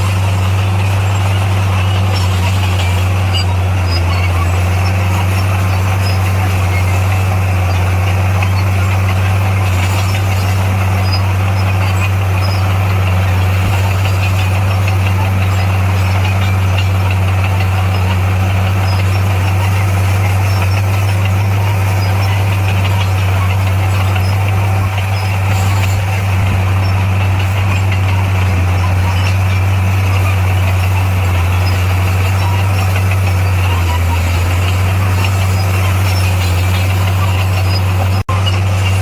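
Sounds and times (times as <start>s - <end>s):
heavy diesel engine droning: 0.0s - 39.0s.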